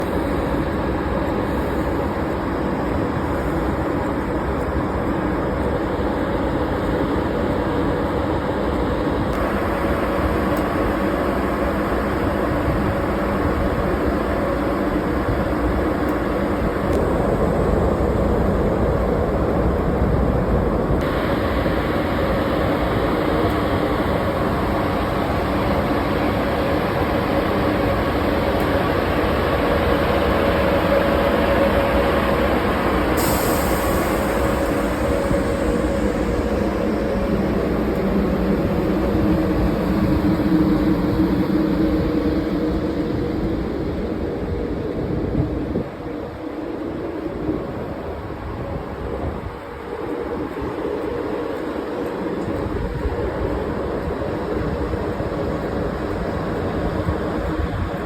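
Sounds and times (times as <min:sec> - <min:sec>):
electric locomotive rumbling: 0:00.0 - 0:58.0.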